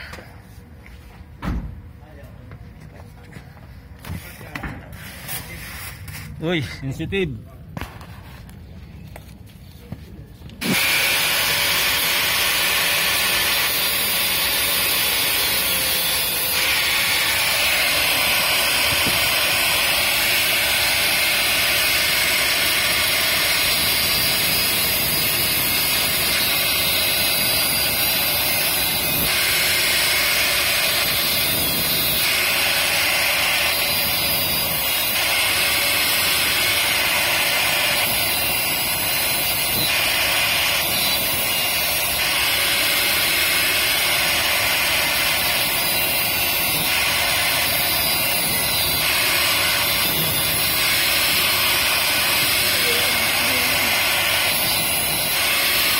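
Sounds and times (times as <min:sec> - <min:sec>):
angle grinder grinding metal: 0:10.6 - 0:55.9.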